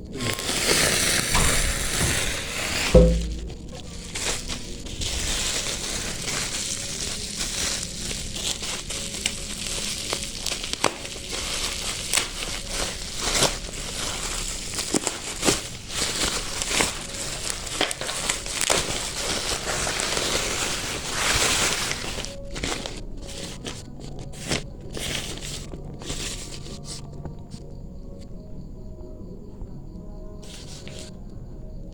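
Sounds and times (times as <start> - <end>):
plastic packaging crinkling: 0.0 - 27.6, 30.4 - 31.1.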